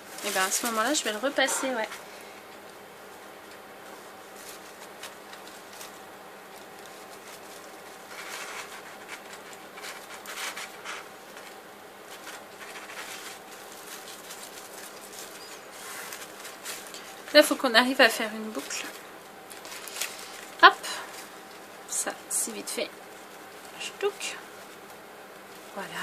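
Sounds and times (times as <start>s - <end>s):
paper ball rustling and scratching: 0.0s - 2.7s, 3.4s - 26.0s
faint steady hum: 0.0s - 26.0s.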